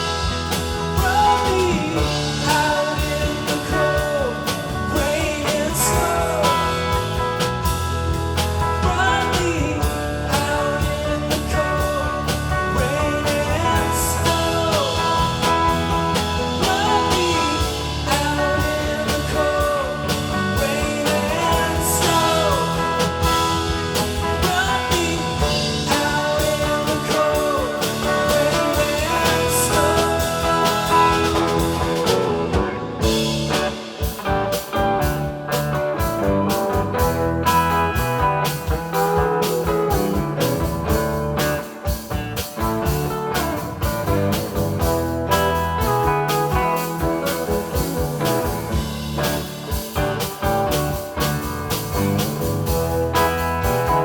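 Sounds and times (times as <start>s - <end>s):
electric guitar lead bending notes: 0.0s - 54.0s
rock band playing: 0.0s - 54.0s.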